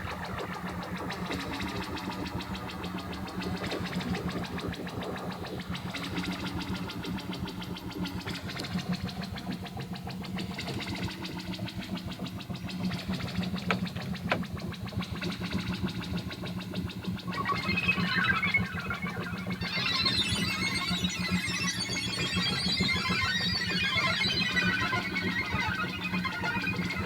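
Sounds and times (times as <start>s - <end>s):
synthesizer noise drone: 0.0s - 27.0s.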